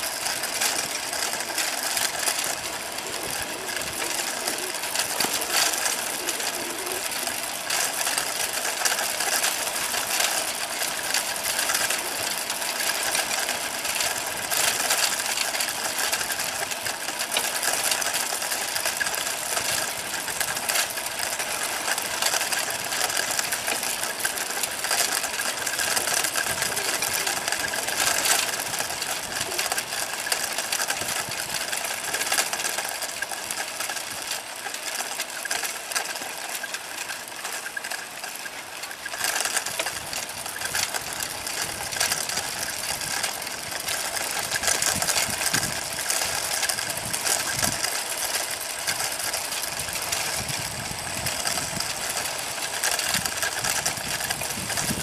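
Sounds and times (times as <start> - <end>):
bicycle rattling and clicking: 0.0 - 55.0
tyre noise on pavement: 0.0 - 55.0.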